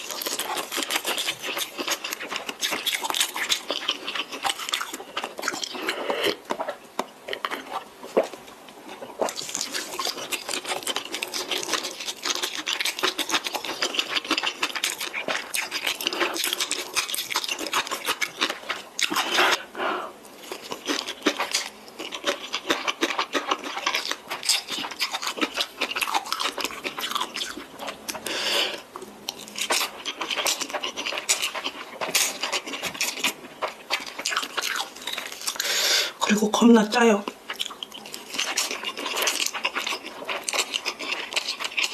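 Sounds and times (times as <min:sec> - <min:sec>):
person chewing noodles: 0:00.0 - 0:36.2, 0:37.2 - 0:41.9.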